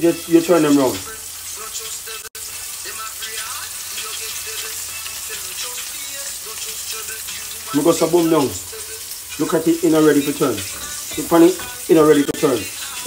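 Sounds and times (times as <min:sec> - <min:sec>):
chicken frying in hot oil: 0:00.0 - 0:13.0.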